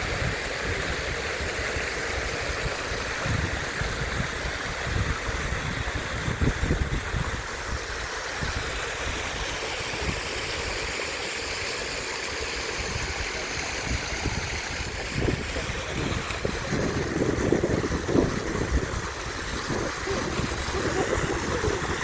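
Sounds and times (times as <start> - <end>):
wind buffeting microphone: 0.0 - 9.3, 12.8 - 22.0
steady rushing hiss: 0.0 - 22.0.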